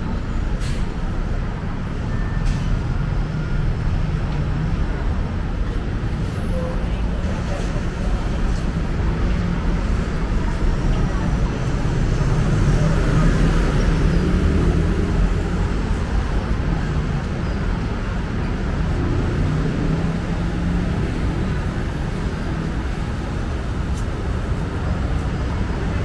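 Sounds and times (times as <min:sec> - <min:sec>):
passing vehicle engines and tyres: 0:00.0 - 0:26.0.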